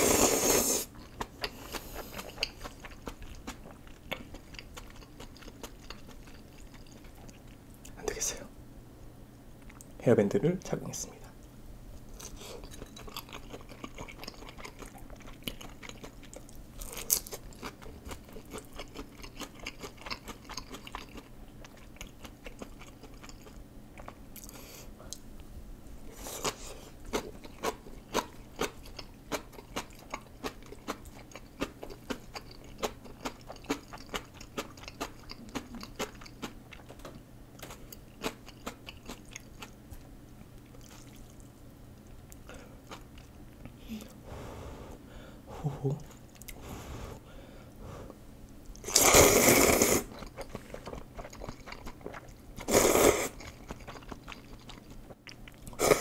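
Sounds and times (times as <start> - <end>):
crunchy chewing: 0.2 - 8.0, 12.1 - 25.2, 26.1 - 43.7, 48.7 - 56.0.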